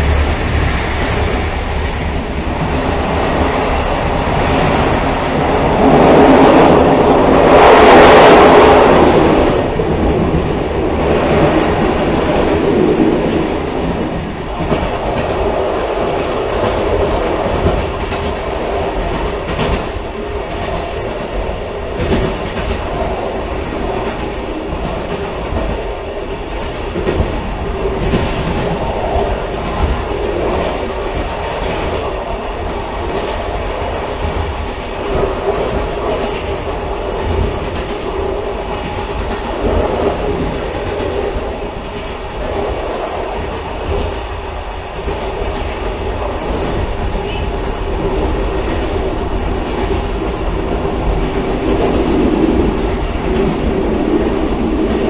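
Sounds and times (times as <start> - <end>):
railcar rumbling on track: 0.0 - 55.0.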